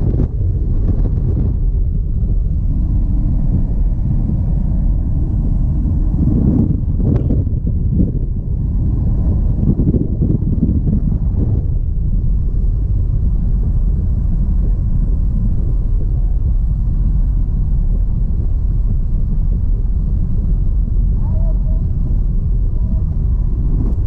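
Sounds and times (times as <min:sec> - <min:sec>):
plane engine and propeller drone: 0:00.0 - 0:24.0
wind rushing through open door: 0:00.0 - 0:24.0.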